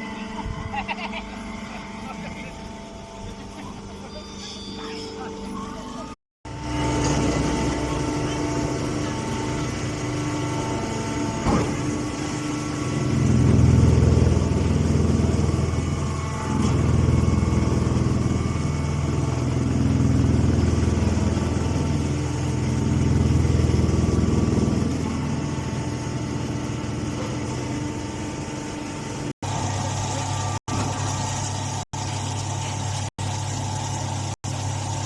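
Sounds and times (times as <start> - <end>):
tractor engine running: 6.5 - 35.0.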